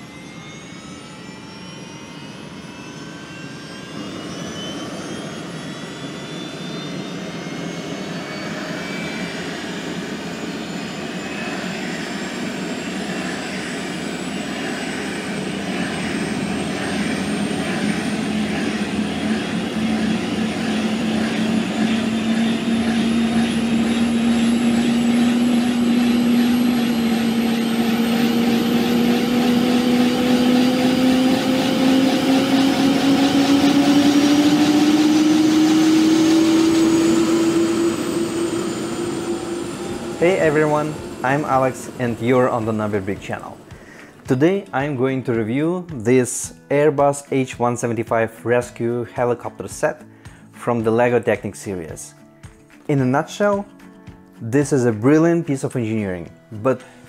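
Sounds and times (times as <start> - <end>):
helicopter turbine spooling up: 0.0 - 57.0.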